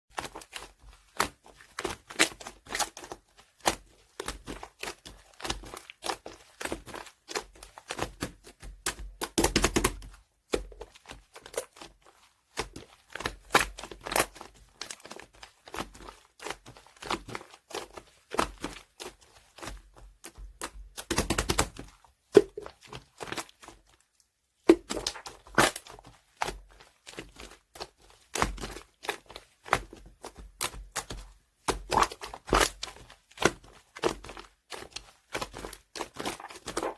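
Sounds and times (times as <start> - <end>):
slime squishing with sticky pops: 0.1 - 36.9.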